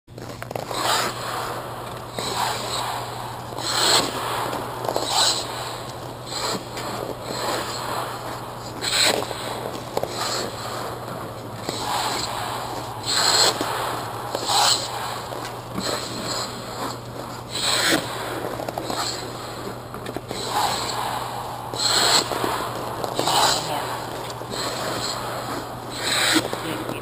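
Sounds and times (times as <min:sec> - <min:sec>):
skate blades scraping ice: 0:00.1 - 0:27.0
steady low hum: 0:00.1 - 0:27.0.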